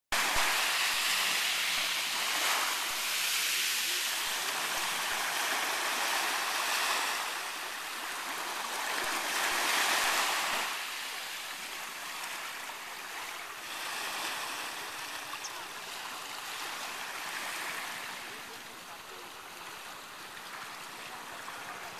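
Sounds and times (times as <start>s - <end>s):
small waves washing on beach: 0.1s - 21.9s.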